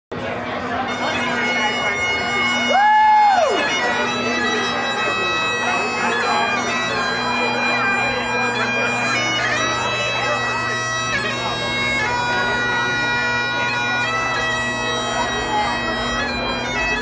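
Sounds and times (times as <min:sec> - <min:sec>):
bagpipe drones: 0:00.3 - 0:17.0
bagpipes playing a tune: 0:00.3 - 0:17.0.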